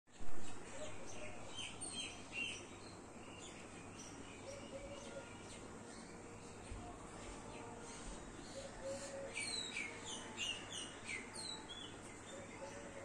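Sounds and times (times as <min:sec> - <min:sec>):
starlings chirping: 0:00.4 - 0:06.8, 0:07.6 - 0:13.0.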